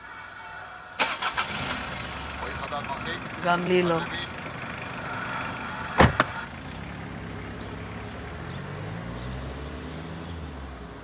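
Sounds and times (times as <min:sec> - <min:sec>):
car engine running at low revs: 0:01.4 - 0:11.0.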